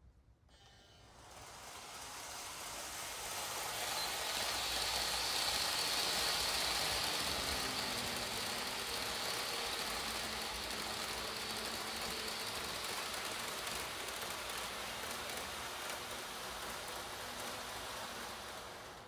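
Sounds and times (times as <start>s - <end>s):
model train rushing hiss: 0.5s - 19.0s.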